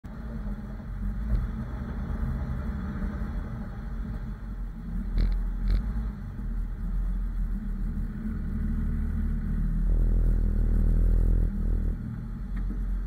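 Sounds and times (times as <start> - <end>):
vehicle engine running low: 0.0 - 13.0.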